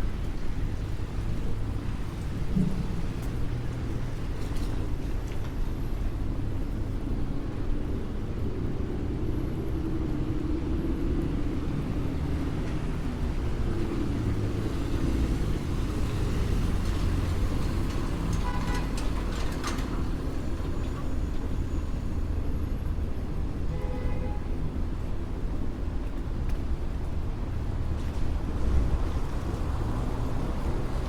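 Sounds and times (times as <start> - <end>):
rumble of passing vehicles: 0.0 - 31.0.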